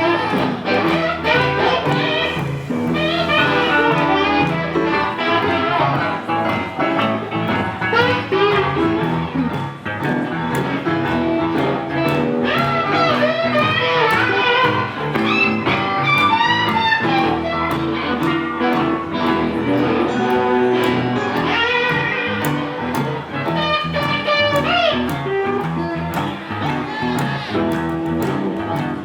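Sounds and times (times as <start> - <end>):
blues band playing: 0.0 - 29.0
guitar lead with bending notes: 0.0 - 29.0.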